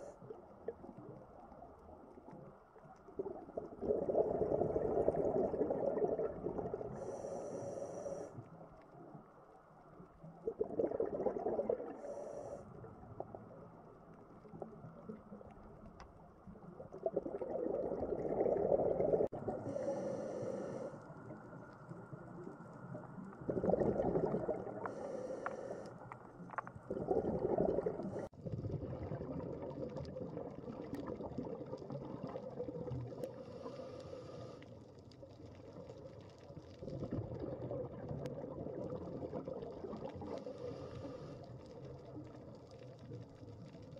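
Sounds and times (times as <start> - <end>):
exhaled bubbles rumbling underwater: 0.0 - 43.9.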